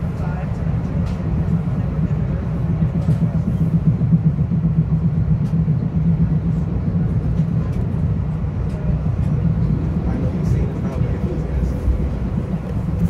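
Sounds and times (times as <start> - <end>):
train running on track: 0.0 - 13.0.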